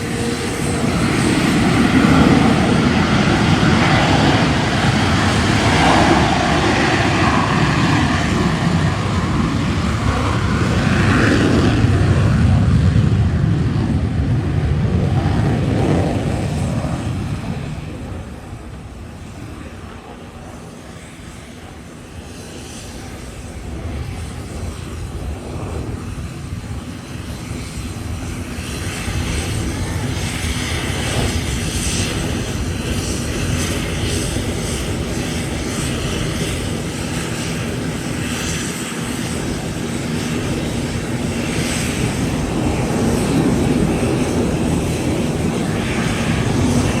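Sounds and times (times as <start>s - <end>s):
jet roar during takeoff: 0.0s - 47.0s.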